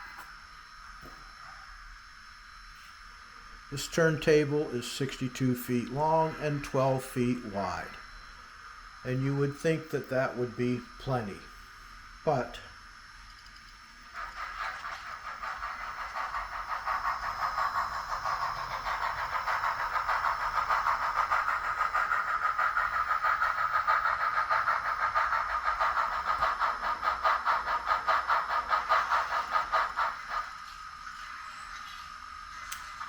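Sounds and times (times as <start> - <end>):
model locomotive whine: 0.0 - 33.0.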